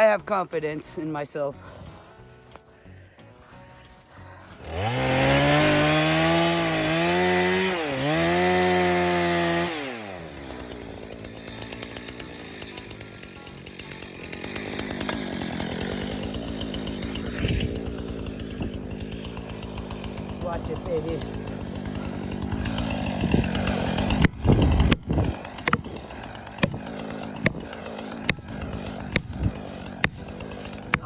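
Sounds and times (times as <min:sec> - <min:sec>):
chainsaw cutting into trunk: 0:00.0 - 0:31.0.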